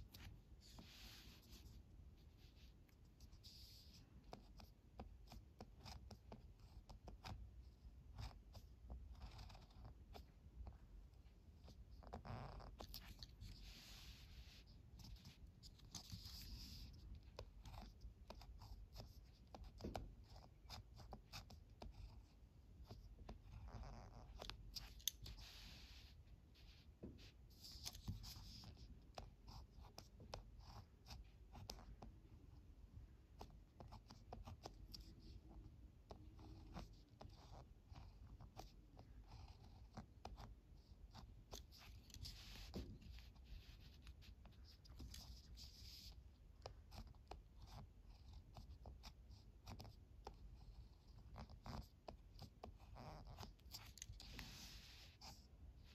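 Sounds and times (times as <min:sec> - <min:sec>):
pen scratching on paper: 0:00.0 - 0:32.2, 0:33.2 - 0:55.9.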